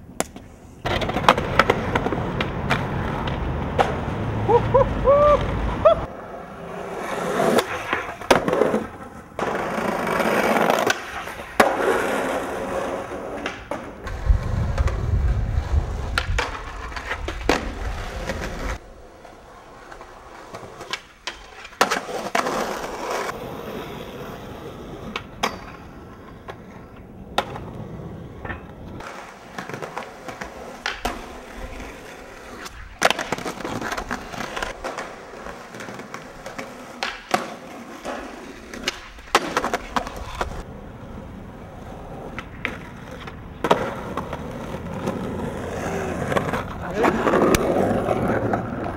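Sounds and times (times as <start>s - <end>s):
skateboard grinding on ledge and rail: 0.0s - 48.9s
skateboard tail popping and landing: 0.0s - 48.9s
skateboard wheels rolling on concrete: 0.0s - 48.9s.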